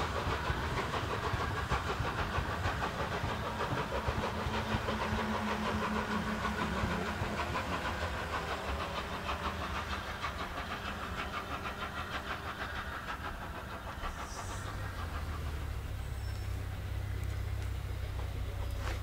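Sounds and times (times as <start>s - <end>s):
steam locomotive exhaust beat: 0.0s - 19.0s.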